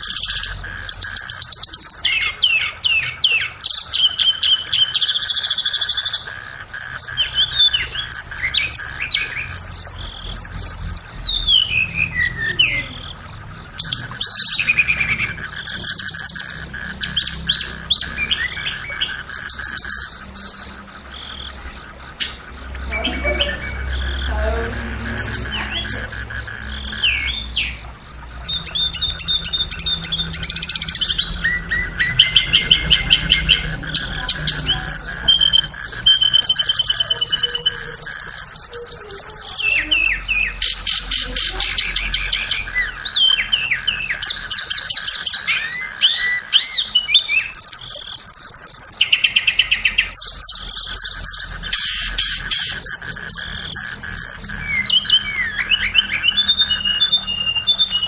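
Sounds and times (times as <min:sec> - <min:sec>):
bird song with trills and chirps: 0:00.0 - 0:58.0.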